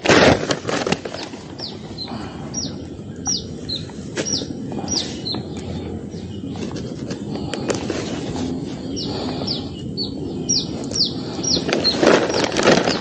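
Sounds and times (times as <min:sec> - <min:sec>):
rustling: 0:00.0 - 0:02.9, 0:03.5 - 0:09.5, 0:10.7 - 0:13.0
bird calling downward notes: 0:01.6 - 0:07.0, 0:08.0 - 0:13.0.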